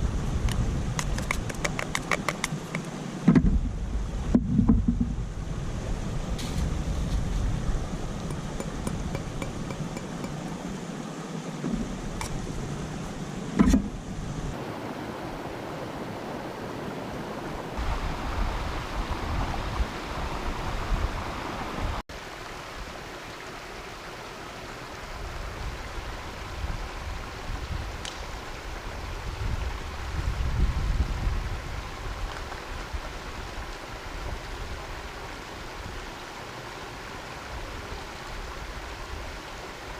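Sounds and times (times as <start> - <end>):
flowing water: 0.0 - 39.9
wind: 0.0 - 39.9.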